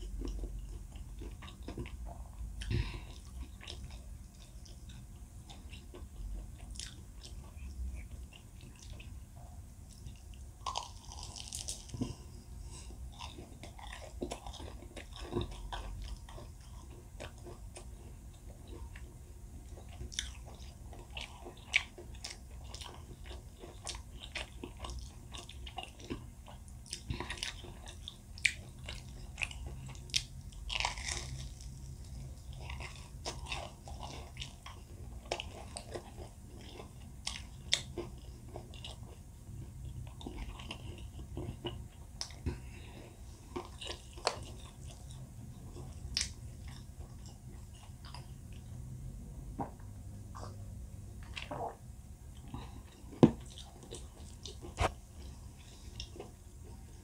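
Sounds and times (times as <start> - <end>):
person chewing crisp food: 0.0 - 9.3, 9.9 - 49.0, 51.2 - 57.0.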